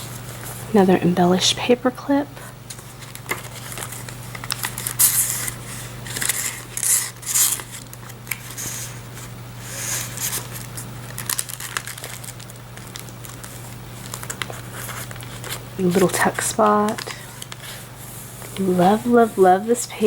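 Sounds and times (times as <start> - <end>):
steady low hum: 0.0 - 20.0
paper pages rustling: 2.7 - 19.8.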